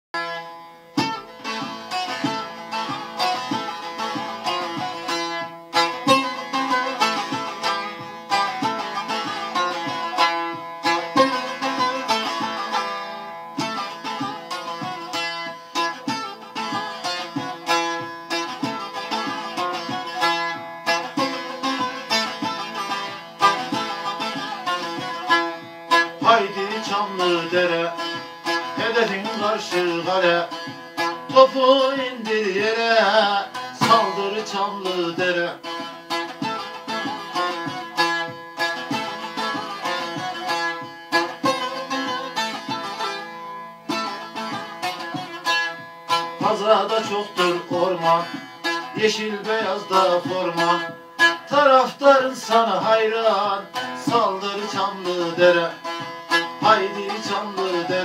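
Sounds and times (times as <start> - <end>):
long-necked lute plucked and strummed: 0.2 - 58.0.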